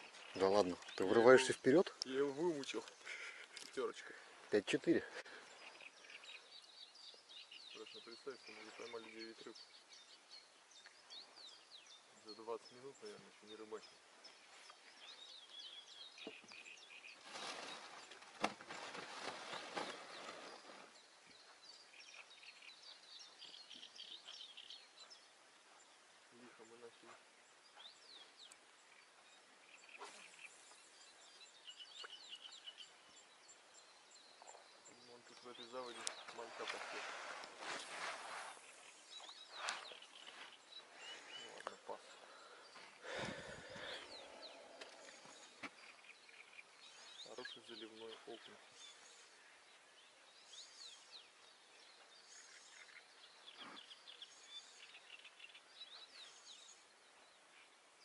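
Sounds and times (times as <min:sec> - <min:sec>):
faint bird chirps: 0:00.0 - 0:58.0.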